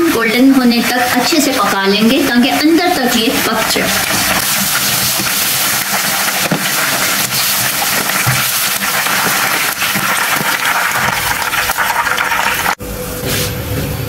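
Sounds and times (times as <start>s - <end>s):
chicken frying in hot oil: 0.0s - 12.8s.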